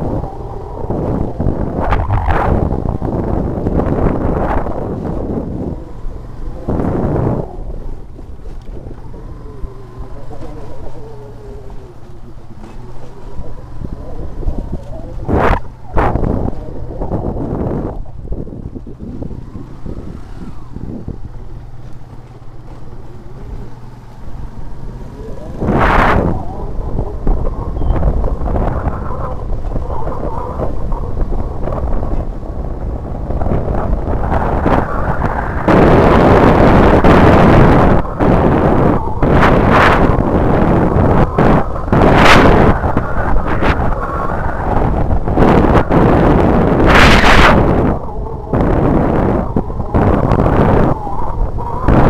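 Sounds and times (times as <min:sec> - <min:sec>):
motorcycle engine running: 0:00.0 - 0:44.0
wind on microphone: 0:00.0 - 0:52.0.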